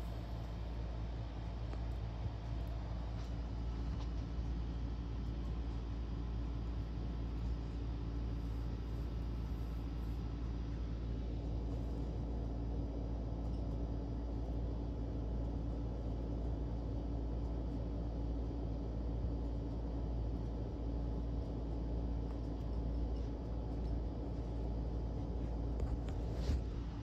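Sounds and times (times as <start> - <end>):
faint constant drone: 0.0 - 27.0
steady low hum: 0.0 - 27.0.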